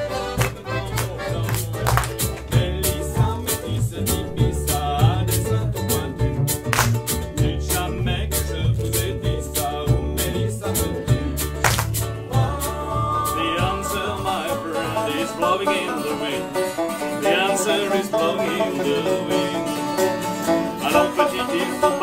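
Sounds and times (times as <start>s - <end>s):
harmonica melody: 0.0s - 6.8s, 7.6s - 22.0s
acoustic guitar: 0.0s - 22.0s
banjo: 0.0s - 22.0s
double bass: 0.0s - 22.0s
ukulele: 0.0s - 22.0s.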